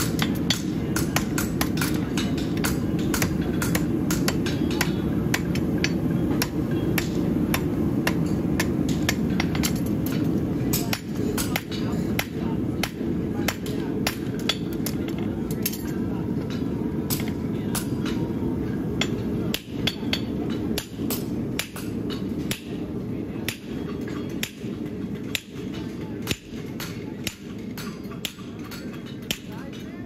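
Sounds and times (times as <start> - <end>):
hammer striking steel: 0.0 - 18.3, 19.0 - 22.8, 23.4 - 30.0
steady low rumble: 0.0 - 29.8.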